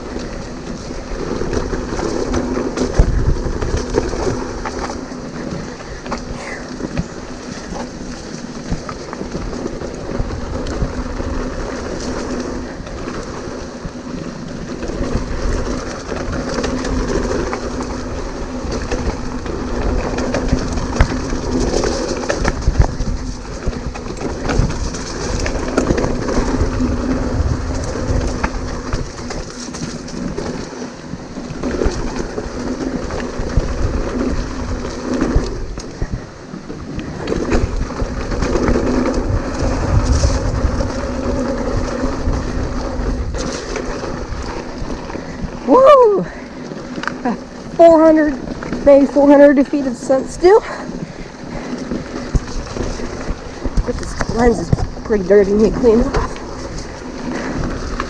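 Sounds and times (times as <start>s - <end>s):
bike knocking and rattling: 0.0s - 58.0s
tyres on dirt: 0.0s - 58.0s
wind rush over microphone: 0.0s - 58.0s.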